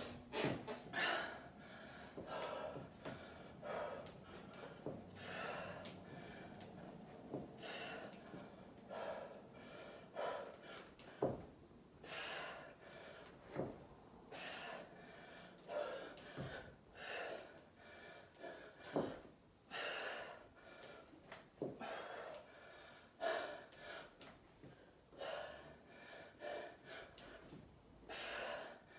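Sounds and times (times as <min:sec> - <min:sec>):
woman gasping breaths: 0:00.2 - 0:11.4, 0:12.0 - 0:13.7, 0:14.3 - 0:28.9.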